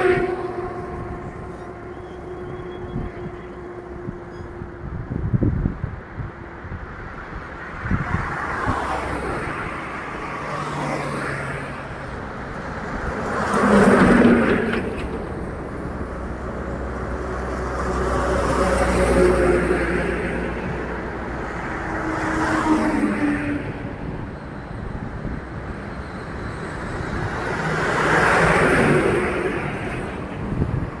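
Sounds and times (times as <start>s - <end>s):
heavy trucks driving past: 0.0s - 31.0s.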